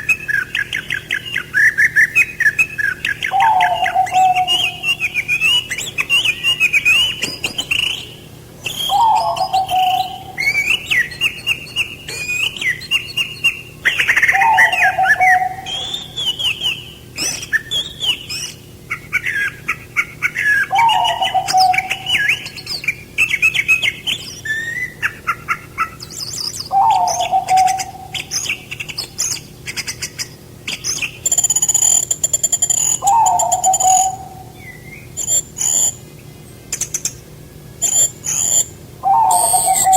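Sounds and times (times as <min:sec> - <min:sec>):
songbirds chirping and singing: 0:00.0 - 0:36.0, 0:36.8 - 0:39.9.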